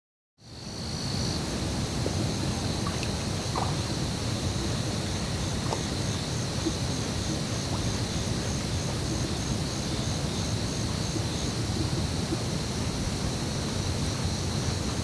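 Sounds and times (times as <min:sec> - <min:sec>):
high insect drone: 0:00.4 - 0:15.0
pulsing insect chirp: 0:00.4 - 0:15.0
low wind rumble: 0:00.6 - 0:15.0.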